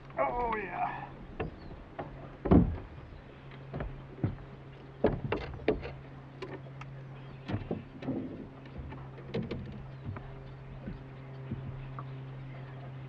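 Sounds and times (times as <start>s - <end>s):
knocks and clatter in a boat: 0.0s - 13.0s
steady low hum: 0.0s - 13.0s.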